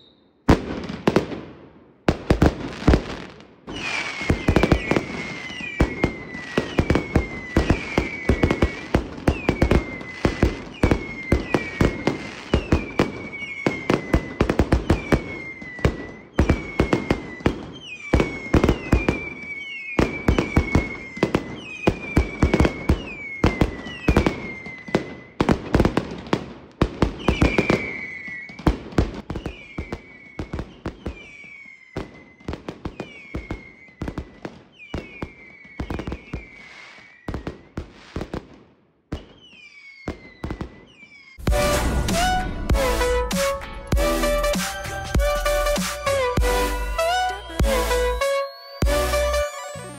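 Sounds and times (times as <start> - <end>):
falling firework whistle: 0.0 - 0.6, 2.9 - 26.4, 27.0 - 38.5, 39.1 - 49.9
fireworks bangs and crackling: 0.0 - 49.9.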